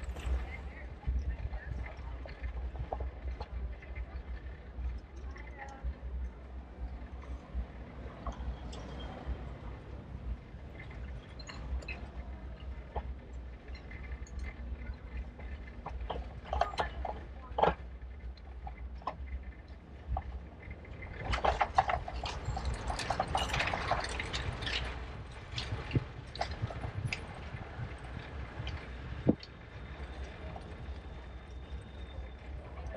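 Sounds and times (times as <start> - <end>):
bike clicks and rattles: 0.0 - 32.9
wind and rolling tyres rumble: 0.0 - 32.9.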